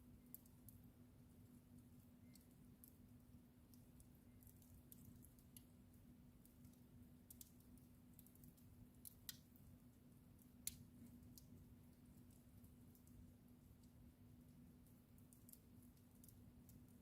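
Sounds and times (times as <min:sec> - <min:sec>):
wood fire crackling and popping: 0:00.1 - 0:17.0.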